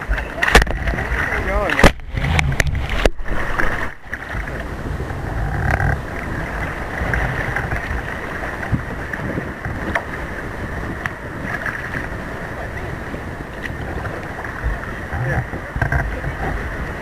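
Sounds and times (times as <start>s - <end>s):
water sloshing around kayak: 0.0s - 17.0s
wind rumbling on microphone: 0.0s - 17.0s.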